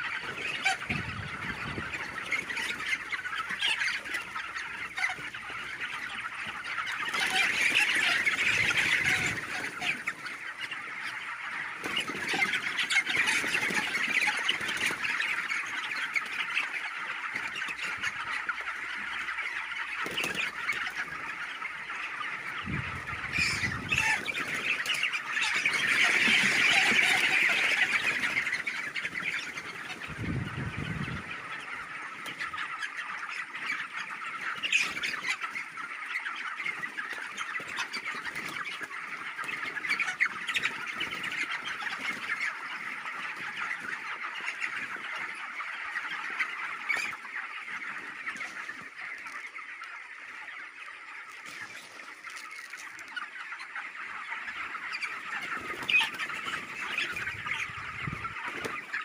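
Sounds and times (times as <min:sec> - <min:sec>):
chickens chattering: 0:00.0 - 0:59.0.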